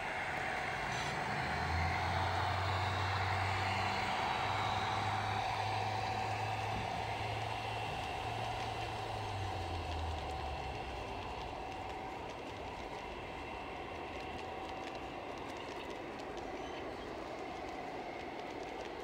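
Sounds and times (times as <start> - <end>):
faint steady whine: 0.0 - 19.0
low hum: 0.0 - 19.0
model train wheels clicking: 0.0 - 19.0.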